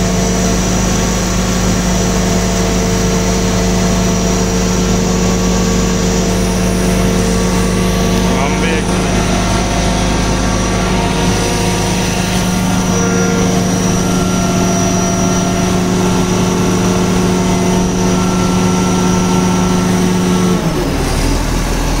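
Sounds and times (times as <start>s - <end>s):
faint steady whines: 0.0s - 21.1s
crane diesel engine running: 0.0s - 22.0s.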